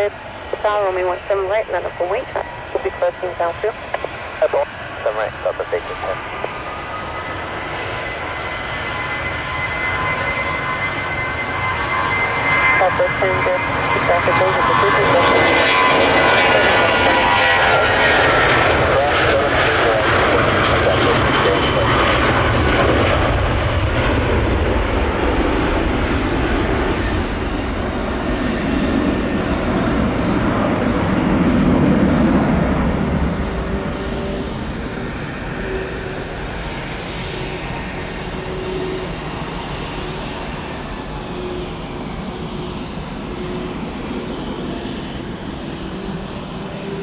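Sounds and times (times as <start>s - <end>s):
jet engines passing: 0.0s - 47.0s.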